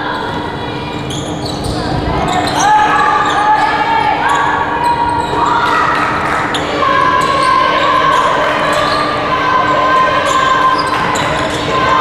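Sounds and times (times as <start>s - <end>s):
people shouting: 1.8s - 12.0s.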